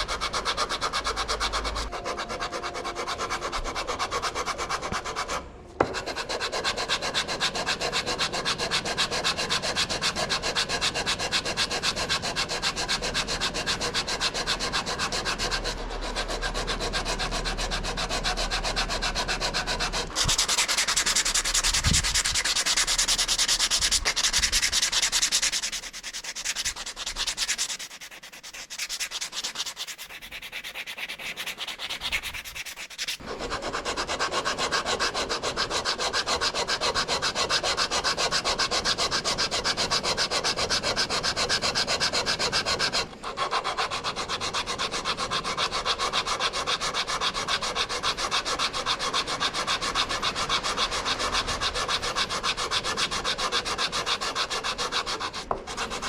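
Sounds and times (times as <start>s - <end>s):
fast scrubbing strokes: 0.0s - 56.0s.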